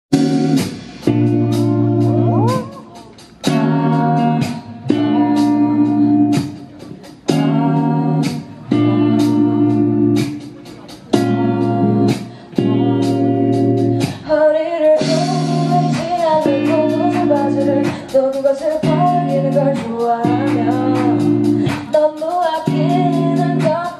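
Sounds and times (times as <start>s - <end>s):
guitar: 0.1s - 23.9s
live band playing chords: 0.1s - 23.9s
woman singing: 1.5s - 6.6s, 7.2s - 10.4s, 11.2s - 23.9s.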